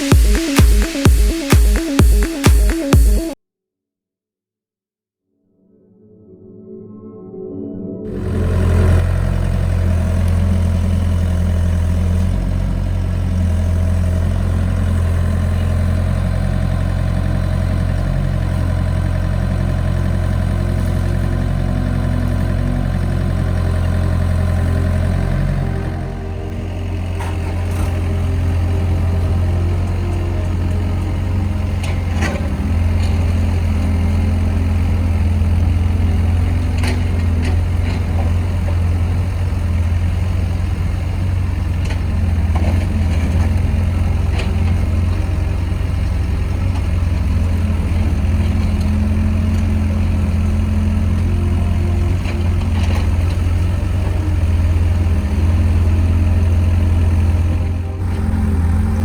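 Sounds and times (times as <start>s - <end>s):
excavator diesel engine running: 0.0s - 3.4s, 8.1s - 59.0s.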